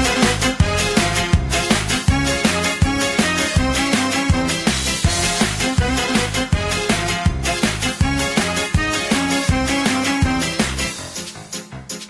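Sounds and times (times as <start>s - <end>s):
music with fast steady beat: 0.0s - 12.0s.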